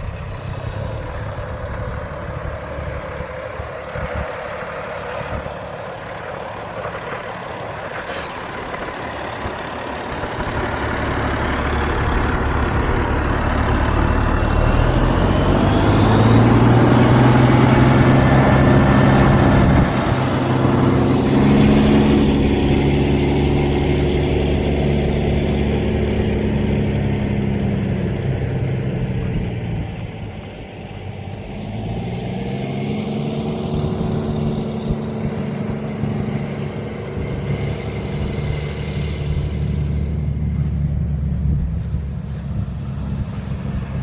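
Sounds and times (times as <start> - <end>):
rising engine whine: 0.0 - 44.0
truck diesel engine under load: 0.0 - 44.0.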